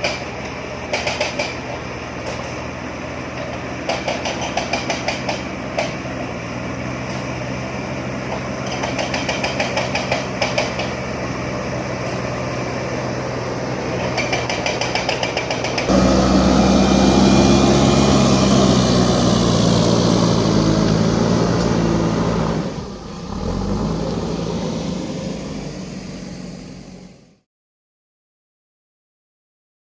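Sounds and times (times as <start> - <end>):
diesel engine running: 0.0 - 27.4.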